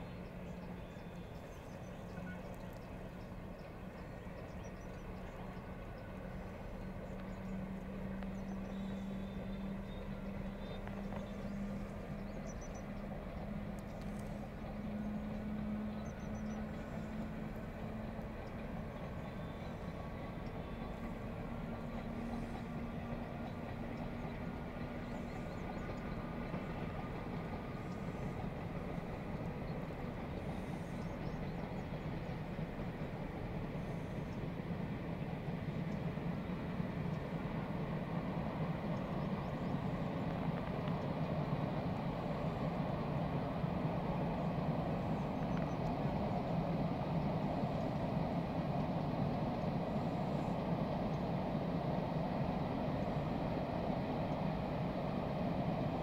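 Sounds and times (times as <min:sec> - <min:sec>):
train running: 0:00.0 - 0:56.0.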